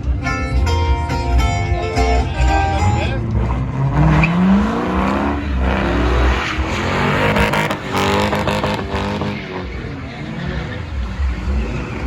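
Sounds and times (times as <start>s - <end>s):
vehicle engine revving: 0.8s - 12.0s.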